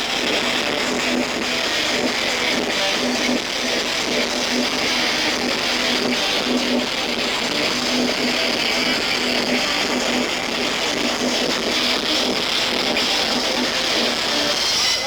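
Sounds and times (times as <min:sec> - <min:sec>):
electric guitar riff: 0:00.0 - 0:15.0
live rock band: 0:00.0 - 0:15.0.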